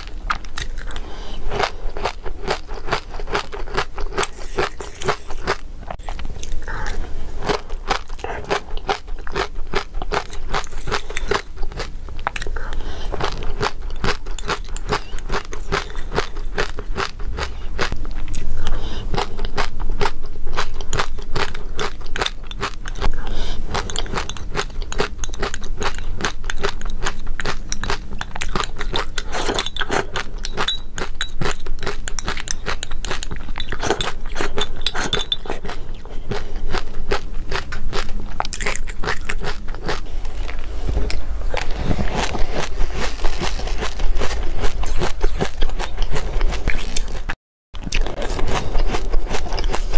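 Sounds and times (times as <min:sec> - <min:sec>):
crunchy chewing: 0:00.0 - 0:49.9.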